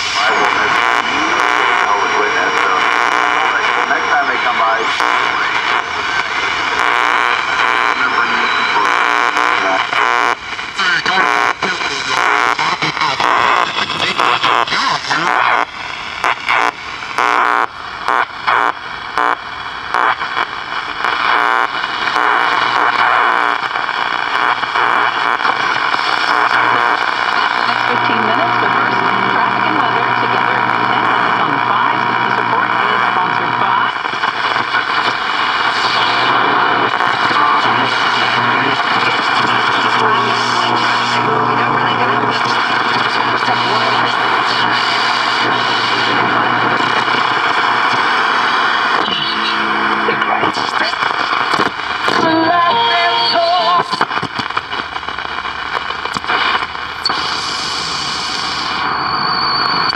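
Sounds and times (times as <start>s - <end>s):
radio static and hiss: 0.0s - 59.9s.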